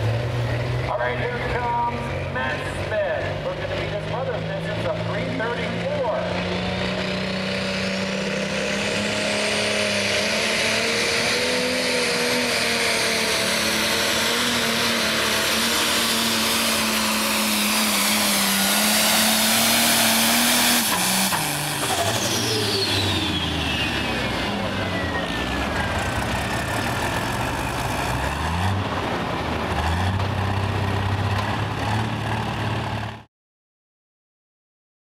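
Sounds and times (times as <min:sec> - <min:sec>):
high turbo whine: 0:00.0 - 0:33.1
diesel tractor engine at full throttle: 0:00.0 - 0:33.3.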